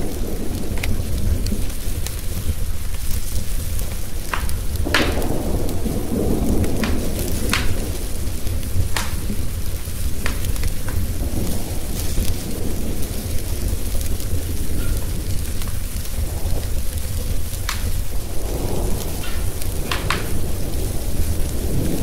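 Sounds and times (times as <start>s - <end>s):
rolling thunder: 0.0s - 22.0s
steady rain: 0.0s - 22.0s
wood fire crackling and popping: 0.0s - 22.0s.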